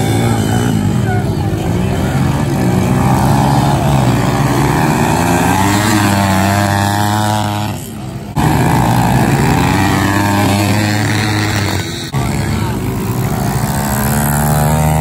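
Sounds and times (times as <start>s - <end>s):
pit bike engines racing past: 0.0s - 15.0s.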